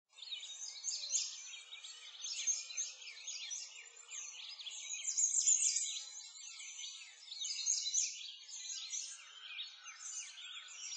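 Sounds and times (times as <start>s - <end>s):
small birds chirping: 0.1s - 10.9s.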